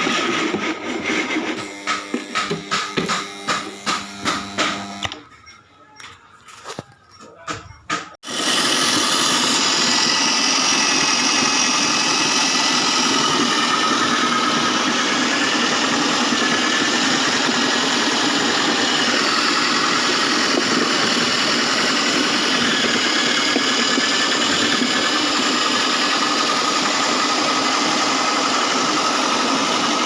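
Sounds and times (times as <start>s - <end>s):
foam shredding machine running: 0.0s - 5.3s, 8.2s - 30.0s.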